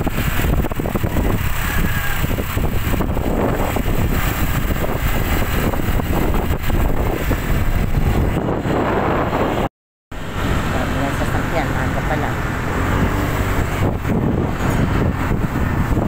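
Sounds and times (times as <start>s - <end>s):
motorcycle road rumble: 0.0s - 16.0s
wind buffeting microphone: 0.0s - 16.0s.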